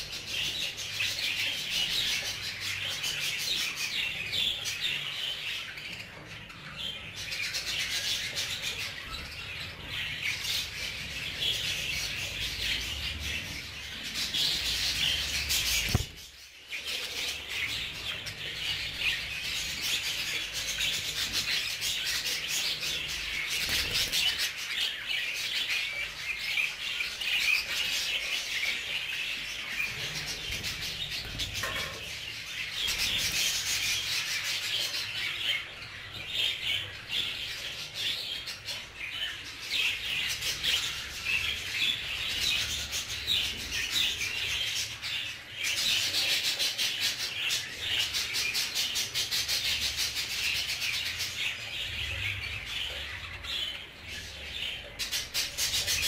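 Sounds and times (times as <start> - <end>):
flock of budgerigars chattering: 0.0 - 56.0.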